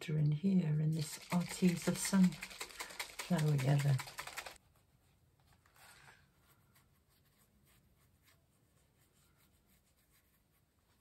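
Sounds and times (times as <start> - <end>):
paintbrush strokes on paper: 0.9 - 5.2, 5.8 - 11.0.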